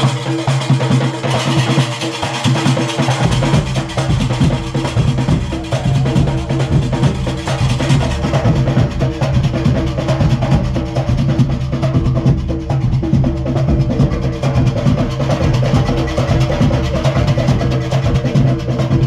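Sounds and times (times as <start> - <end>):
cowbells: 0.0 - 19.0
tom-tom drums: 0.0 - 19.0.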